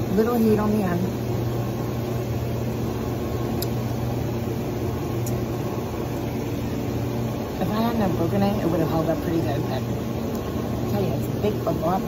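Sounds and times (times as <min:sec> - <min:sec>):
appliance motor humming: 0:00.0 - 0:12.0.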